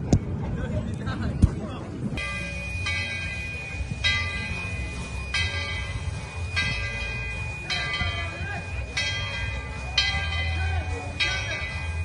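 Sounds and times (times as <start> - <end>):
locomotive bell ringing: 2.1 - 12.0.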